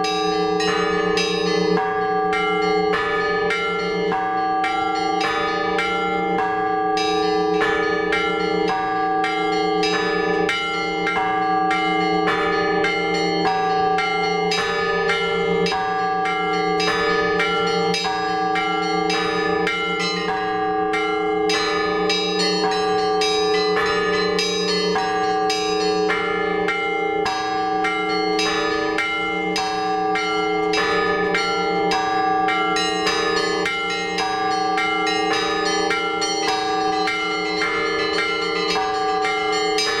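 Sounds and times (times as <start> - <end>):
large bells ringing: 0.0 - 40.0.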